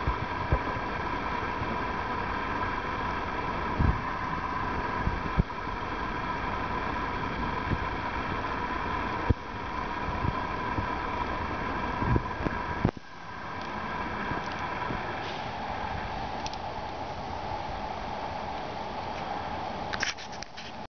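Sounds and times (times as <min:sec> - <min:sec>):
arc welding sizzling hiss: 0:00.0 - 0:20.8.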